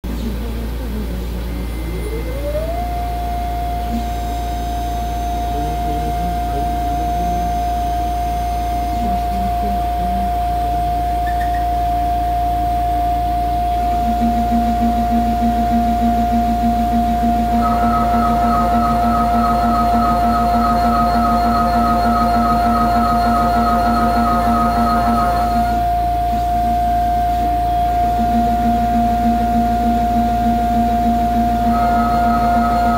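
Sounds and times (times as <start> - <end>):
low pulsing sound: 0.0 - 32.9
mill spindle high whine: 0.0 - 32.9
low whirring of axis motors: 0.1 - 32.9.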